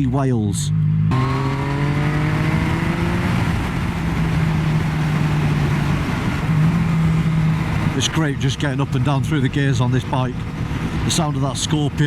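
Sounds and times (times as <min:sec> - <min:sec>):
motorcycle engine accelerating: 0:00.6 - 0:11.4
wind rush over microphone: 0:01.2 - 0:12.0.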